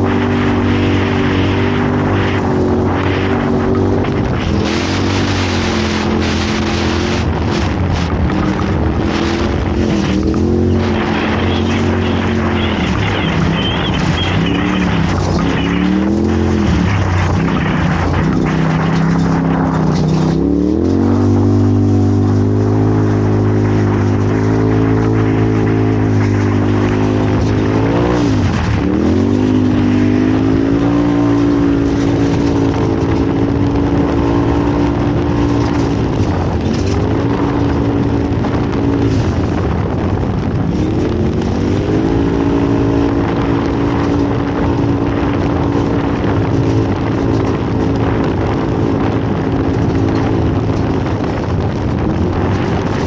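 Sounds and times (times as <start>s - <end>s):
race vehicle engine revving: 0.0s - 53.0s
road and wind noise: 0.0s - 53.0s.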